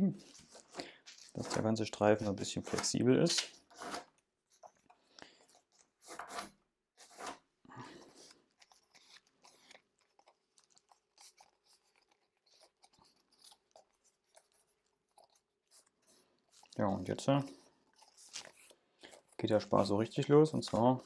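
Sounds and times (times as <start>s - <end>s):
paper strip crinkling: 0.2s - 7.4s, 8.0s - 21.0s.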